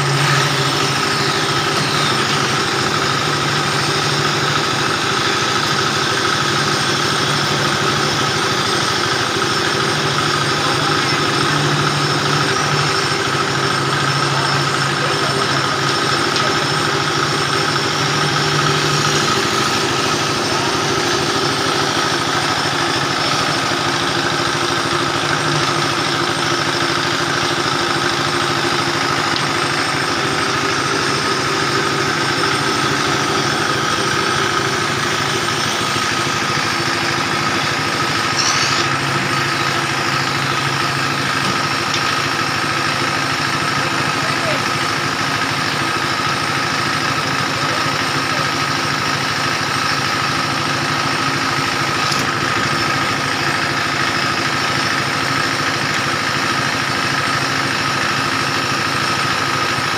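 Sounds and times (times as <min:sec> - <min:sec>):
diesel engine running: 0:00.0 - 0:59.9
dowel machine shaving wood: 0:00.0 - 0:59.9.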